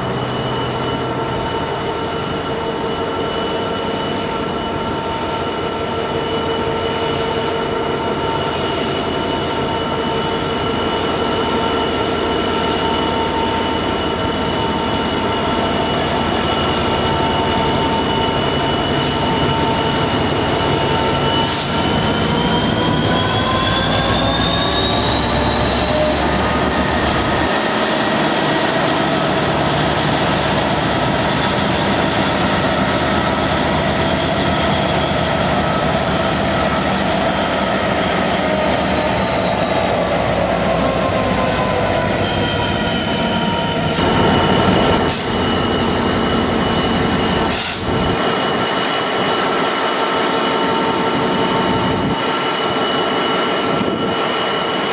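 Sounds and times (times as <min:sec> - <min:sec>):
train whining: 0:00.0 - 0:54.9.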